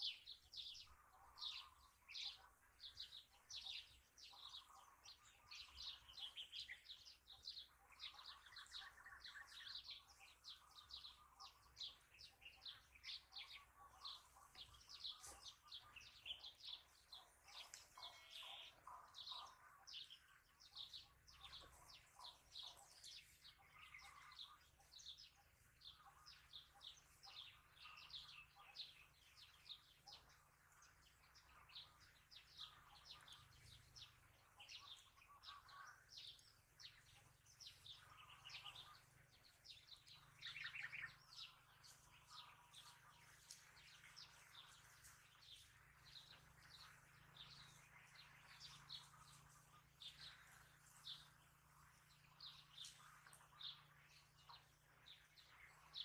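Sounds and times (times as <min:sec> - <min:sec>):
flock of small birds chirping: 0:00.0 - 0:56.0.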